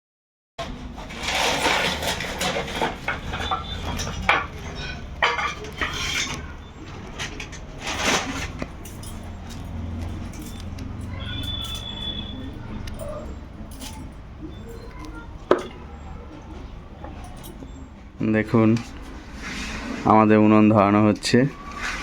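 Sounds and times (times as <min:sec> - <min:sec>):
cooking utensils clattering: 0:00.6 - 0:20.1.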